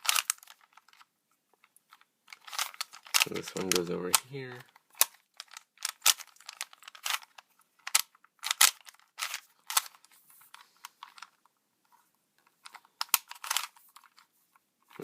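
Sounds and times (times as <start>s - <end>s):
plastic puzzle cube clicking: 0.0s - 11.5s, 12.4s - 14.3s.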